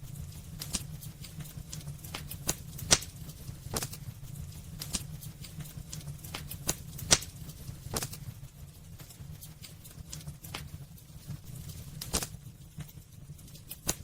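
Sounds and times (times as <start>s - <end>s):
fire crackles and pops: 0.0s - 14.0s
low rumble of flames: 0.0s - 14.0s.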